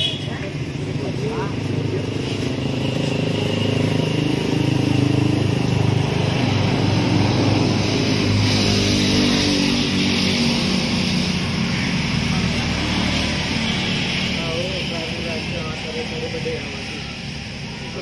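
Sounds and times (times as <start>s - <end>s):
engine running steadily: 0.0s - 18.0s.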